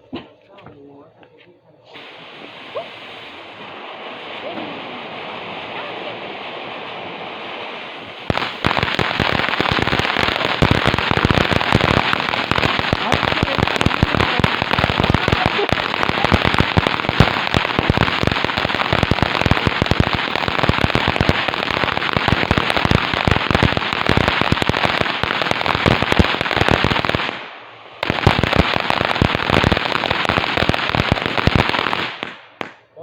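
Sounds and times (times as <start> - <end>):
firework crackling pops: 1.9 - 32.8.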